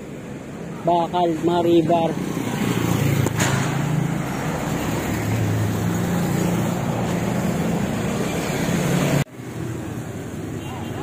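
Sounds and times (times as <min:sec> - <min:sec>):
vehicles passing: 0:00.0 - 0:11.0.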